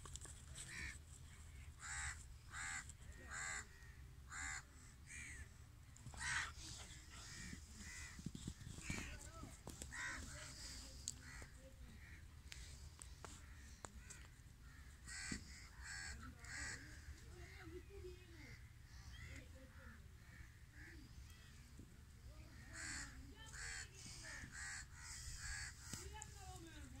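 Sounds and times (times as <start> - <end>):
crows cawing: 0.6 - 1.0, 1.6 - 5.5, 6.1 - 12.3, 13.2 - 17.8, 18.4 - 21.6, 22.4 - 26.3.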